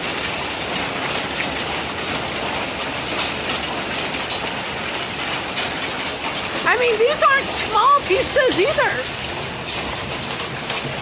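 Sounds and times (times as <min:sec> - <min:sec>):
hail and heavy rain on roof: 0:00.0 - 0:11.0.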